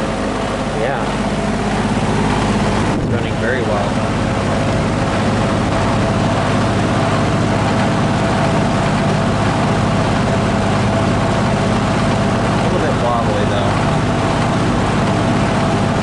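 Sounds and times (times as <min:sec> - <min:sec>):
fan grille buzzing: 0:00.0 - 0:16.0
fan motor hum: 0:00.0 - 0:16.0
rush of air from fan blades: 0:00.0 - 0:16.0.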